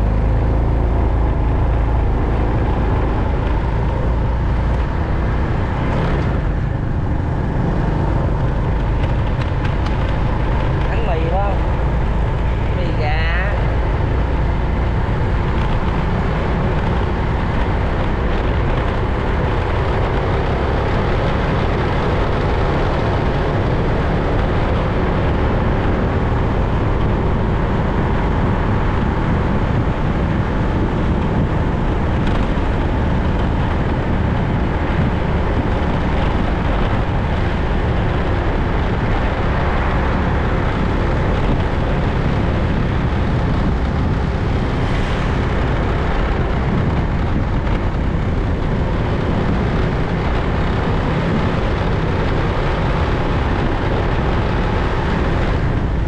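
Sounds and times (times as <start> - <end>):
vehicle road noise: 0.0 - 56.0
wind rush: 0.0 - 56.0.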